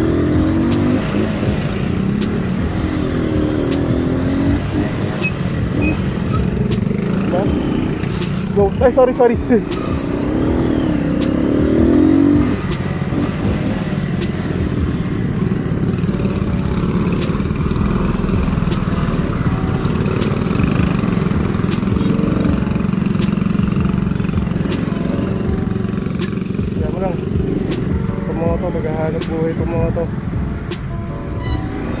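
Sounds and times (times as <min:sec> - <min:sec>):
motorcycle engine running: 0:00.0 - 0:32.0
wavering pitched sound: 0:00.0 - 0:32.0.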